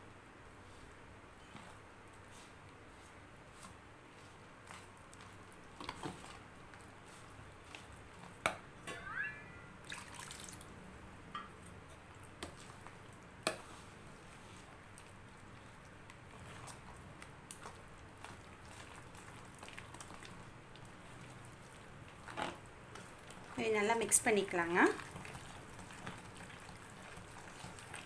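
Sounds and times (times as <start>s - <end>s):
spoon stirring wet batter: 0.6s - 8.5s, 11.4s - 28.0s.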